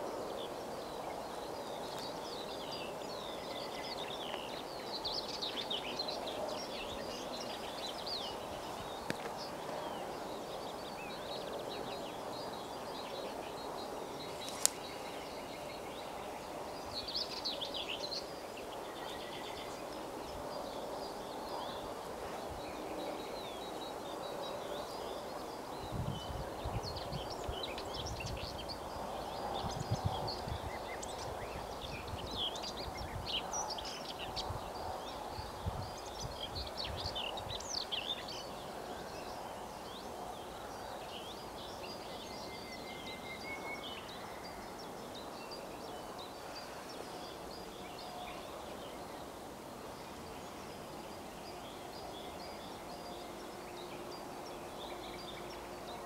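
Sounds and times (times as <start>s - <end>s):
birds singing and chirping: 0.0s - 56.0s
outdoor background noise: 0.0s - 56.0s.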